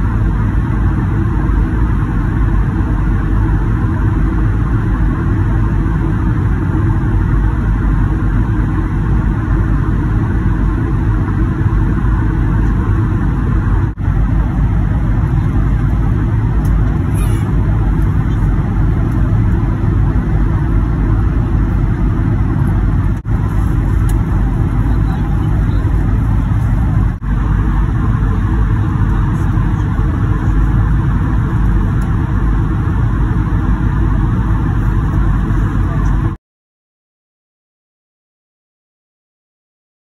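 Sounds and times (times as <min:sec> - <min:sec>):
airliner cabin noise: 0:00.0 - 0:36.4.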